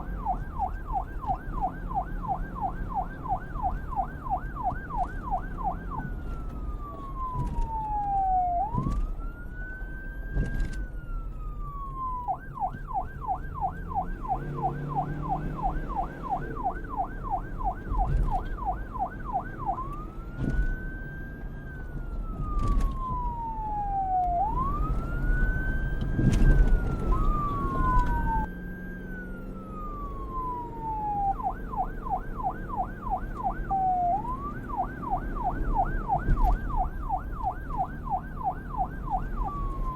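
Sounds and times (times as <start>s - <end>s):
police siren wailing and yelping: 0.0s - 39.9s.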